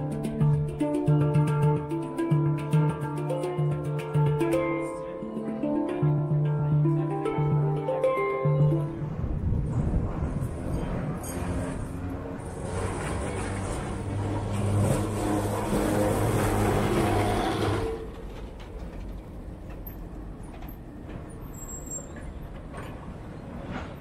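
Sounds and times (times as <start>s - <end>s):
street noise: 0.0s - 24.0s
tram motor hum and rumble: 3.3s - 24.0s.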